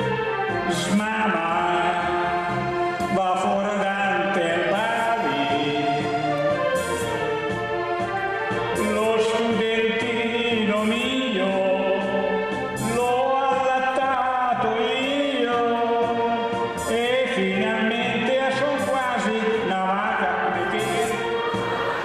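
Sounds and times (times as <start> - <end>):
keyboard accompaniment: 0.0 - 22.0
man singing into a microphone: 0.5 - 6.4, 8.7 - 21.4.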